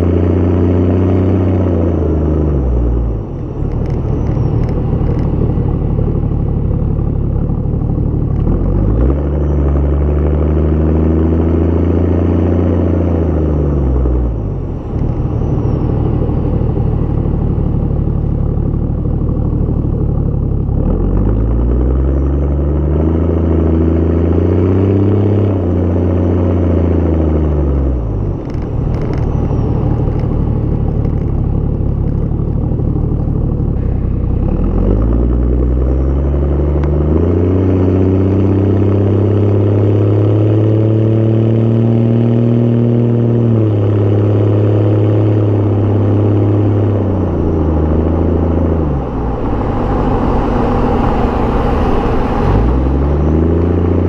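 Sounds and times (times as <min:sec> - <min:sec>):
diesel exhaust while driving: 0:00.0 - 0:54.0.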